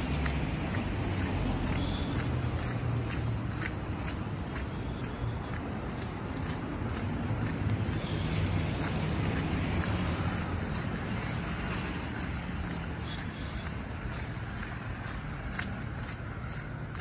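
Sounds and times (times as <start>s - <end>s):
car engines humming: 0.0s - 17.0s.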